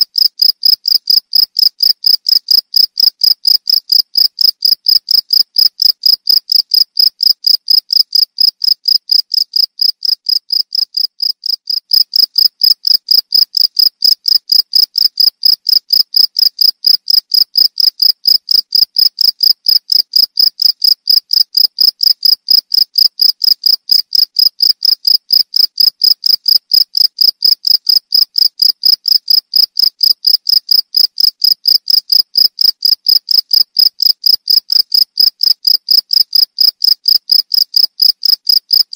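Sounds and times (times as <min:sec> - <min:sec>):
cricket chirping: 0:00.1 - 0:38.8.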